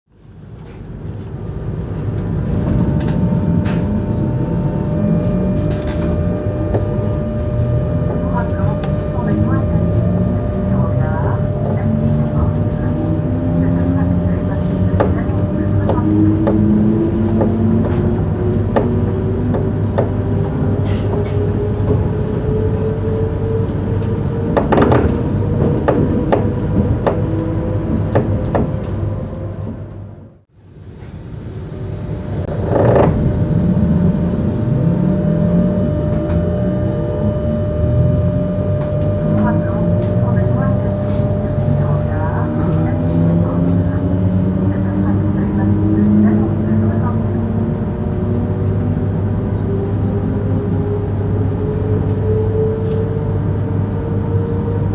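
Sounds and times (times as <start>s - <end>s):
electric train rumbling: 0.1s - 54.9s
thin steady whine: 0.1s - 54.9s.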